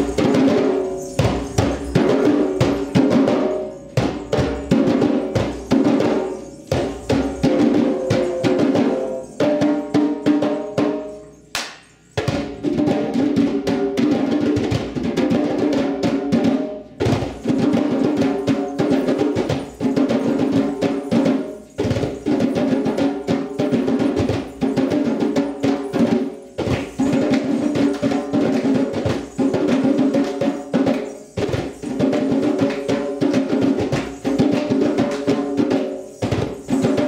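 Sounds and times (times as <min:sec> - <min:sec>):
hand drums in fast rhythm: 0:00.0 - 0:37.0.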